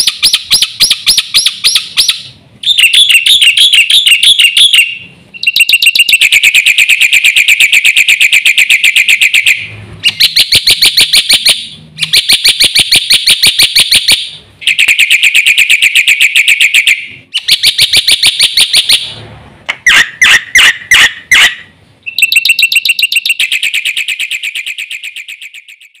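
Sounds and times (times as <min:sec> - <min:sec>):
myna bird singing: 0:00.0 - 0:19.1, 0:19.7 - 0:26.0.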